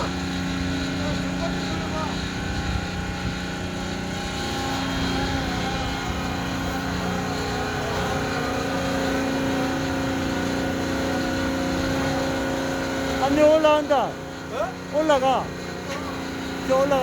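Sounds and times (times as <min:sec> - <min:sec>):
concrete mixer drum drone: 0:00.0 - 0:17.0.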